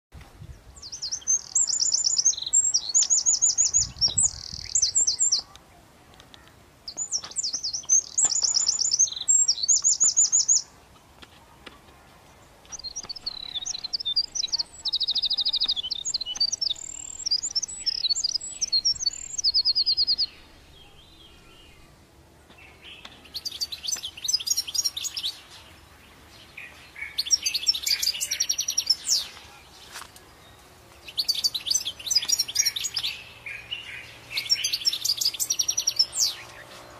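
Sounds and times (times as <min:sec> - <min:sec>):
songbirds trilling and chirping: 0:00.2 - 0:36.9.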